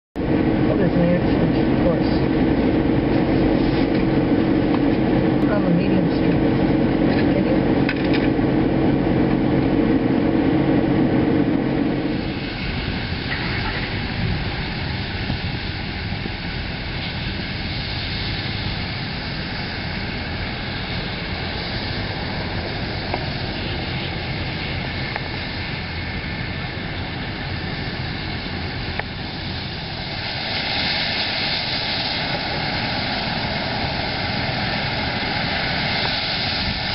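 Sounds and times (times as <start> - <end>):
faint high turbine whine: 0.2 - 36.9
helicopter rotor drone: 0.2 - 36.9
steady rush: 0.2 - 36.9.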